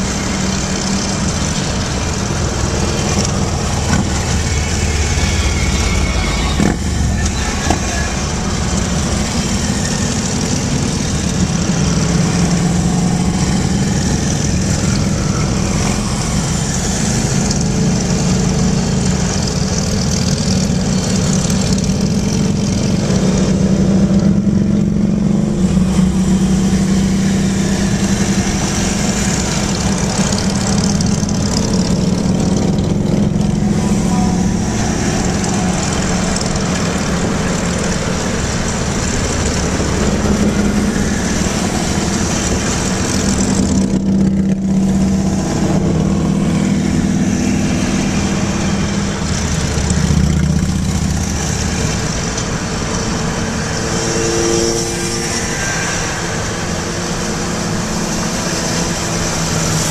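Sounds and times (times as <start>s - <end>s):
car engine and road noise: 0.0s - 59.9s
motorcycles riding: 0.0s - 59.9s.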